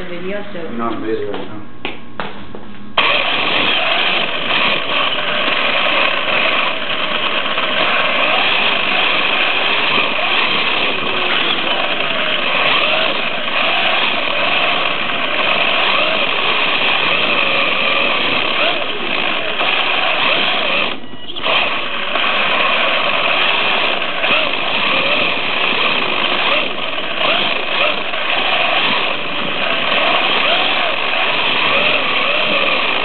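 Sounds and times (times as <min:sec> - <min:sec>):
rc truck motor whine: 0:03.0 - 0:33.0.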